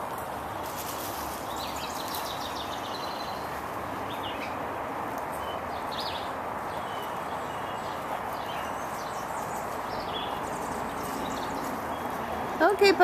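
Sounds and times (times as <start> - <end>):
outdoor background hiss: 0.0 - 13.0
birds chirping: 0.6 - 13.0.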